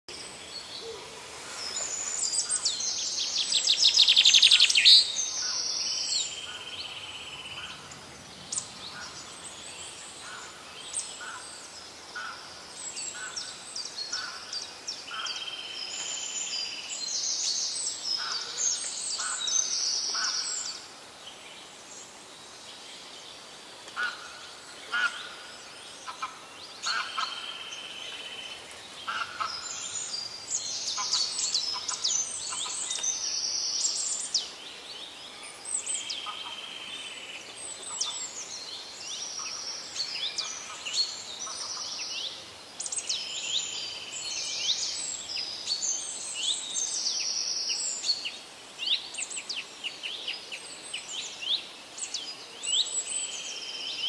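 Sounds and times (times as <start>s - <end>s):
birds chirping and trilling: 0.1s - 54.0s.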